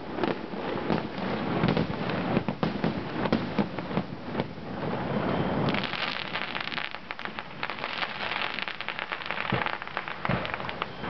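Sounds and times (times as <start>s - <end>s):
fireworks booms: 0.0s - 11.0s
fireworks crackling: 0.0s - 11.0s.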